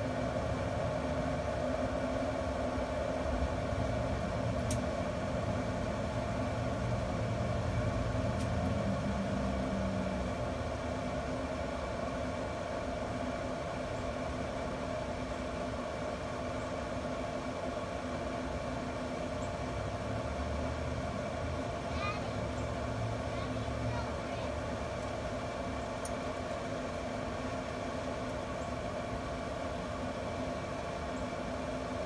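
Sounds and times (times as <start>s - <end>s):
grill mechanical hum: 0.0s - 32.0s.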